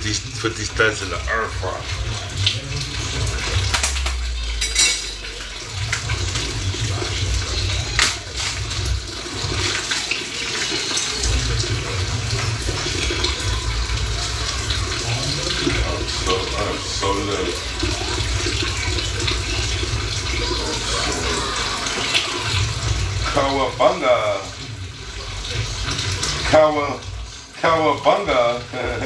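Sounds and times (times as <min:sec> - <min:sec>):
water running from a tap: 0:00.0 - 0:29.0.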